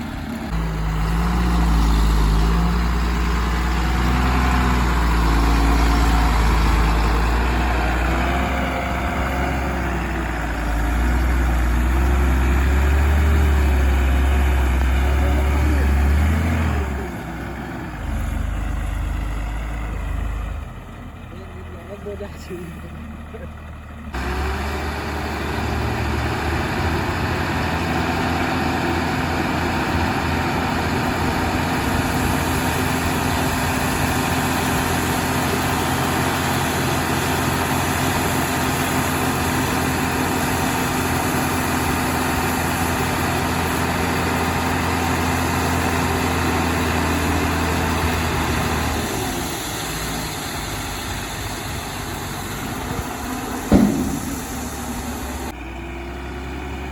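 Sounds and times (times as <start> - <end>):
backhoe diesel engine running hard: 0.0 - 56.9.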